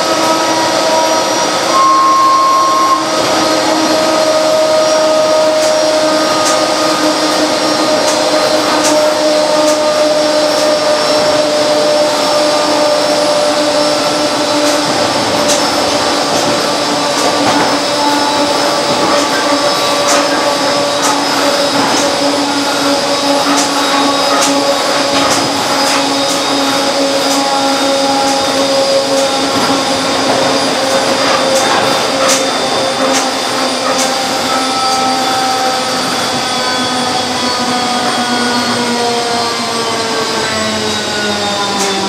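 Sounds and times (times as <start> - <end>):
electric train motor whine: 0.0 - 42.0
train running noise: 0.0 - 42.0.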